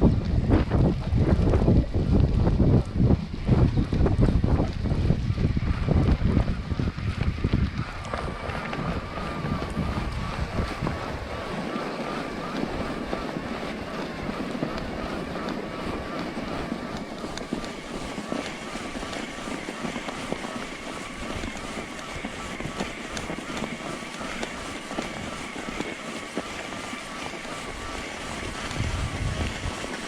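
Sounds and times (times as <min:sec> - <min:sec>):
bike tyre and drivetrain noise: 0:00.0 - 0:30.0
thin steady whine: 0:00.0 - 0:30.0
wind on microphone: 0:00.0 - 0:30.0.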